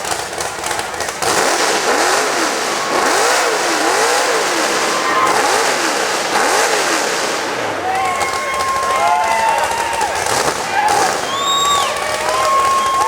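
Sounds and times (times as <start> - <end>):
mud truck engine revving: 0.0 - 13.0.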